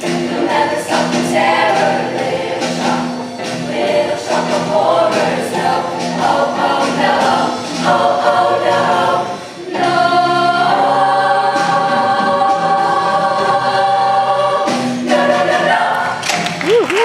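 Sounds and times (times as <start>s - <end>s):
girls' choir singing in harmony: 0.0s - 16.6s.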